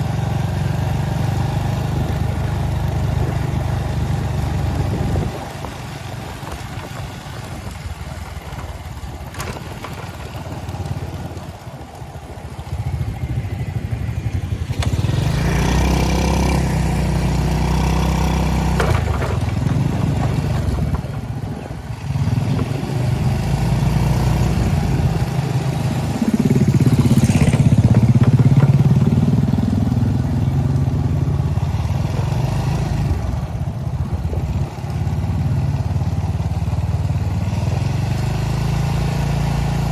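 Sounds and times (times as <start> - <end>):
vehicle engines running: 0.0 - 39.9
vehicles passing close: 0.0 - 39.9.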